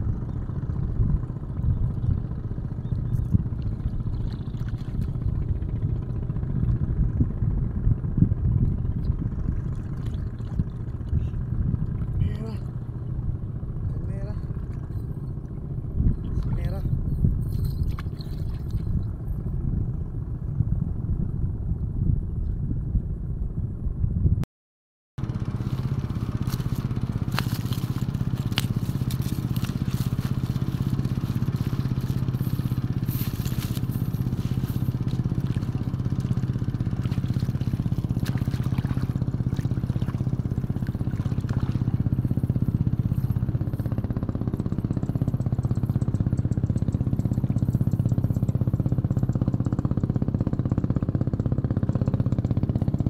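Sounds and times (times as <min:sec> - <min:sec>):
low engine drone: 0:00.0 - 0:24.4, 0:25.2 - 0:53.0.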